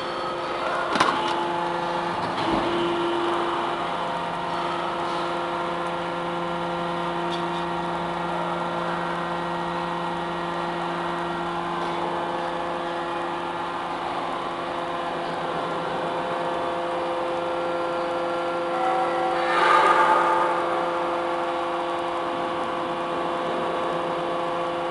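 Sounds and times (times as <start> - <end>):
hydraulic power unit humming: 0.0 - 24.9.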